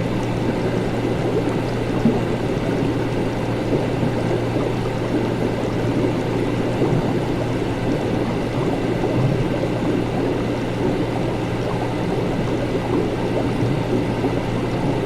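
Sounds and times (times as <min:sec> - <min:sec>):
liquid bubbling and gurgling: 0:00.0 - 0:15.0
steady low hum: 0:00.0 - 0:15.0.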